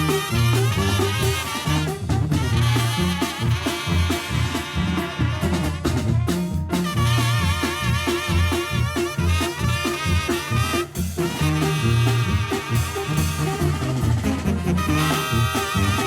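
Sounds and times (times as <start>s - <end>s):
brass instruments: 0.0s - 16.0s
drums keeping a beat: 0.0s - 16.0s
tuba bass line: 0.0s - 16.0s.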